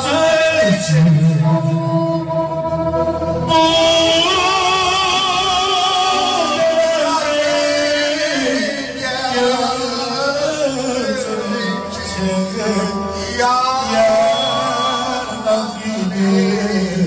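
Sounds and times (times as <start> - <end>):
live band playing: 0.0 - 17.0
men singing into microphones: 0.0 - 17.0.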